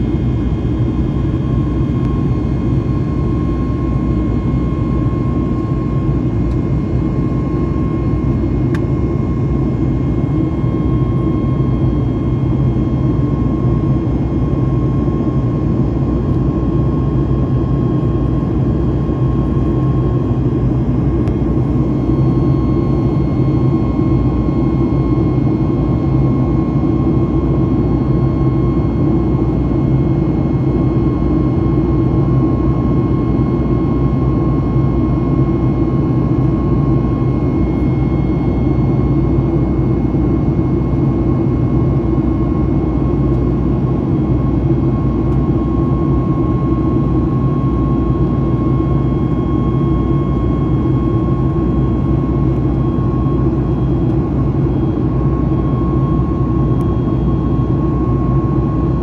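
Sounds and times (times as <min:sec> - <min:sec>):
jet engines droning: 0:00.0 - 0:59.0
thin steady whine: 0:00.0 - 0:59.0.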